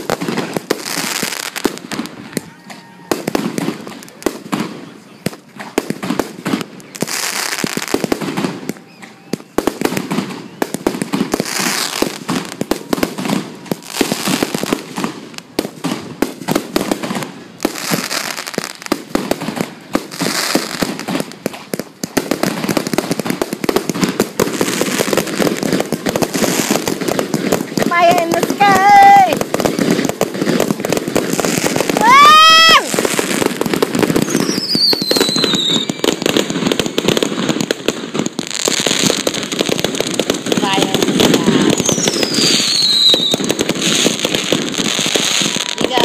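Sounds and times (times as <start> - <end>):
fireworks hissing crackle: 0.0 - 46.0
fireworks popping and banging: 0.0 - 46.0.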